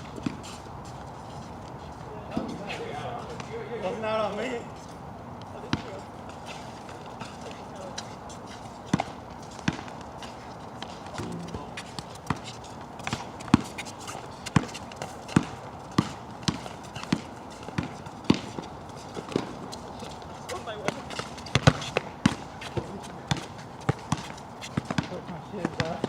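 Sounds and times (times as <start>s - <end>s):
basketball bouncing on hard ground: 0.0s - 1.0s, 5.4s - 26.0s.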